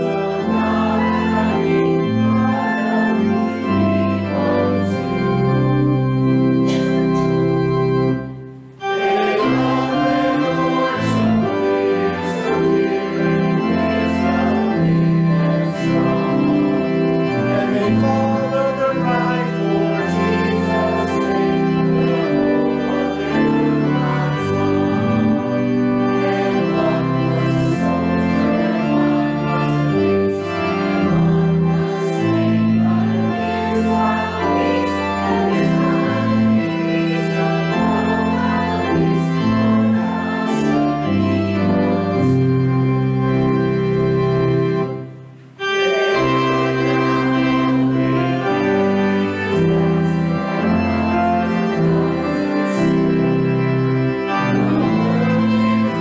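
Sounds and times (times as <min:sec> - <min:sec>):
church organ playing a hymn: 0:00.0 - 0:56.0.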